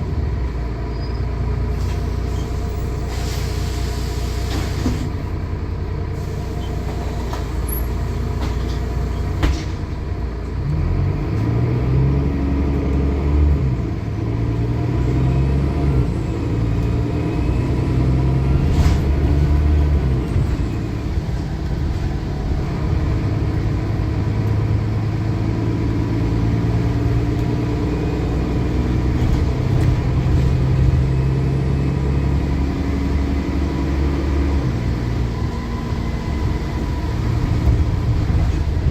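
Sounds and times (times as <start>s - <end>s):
diesel bus engine accelerating: 0.0s - 38.9s.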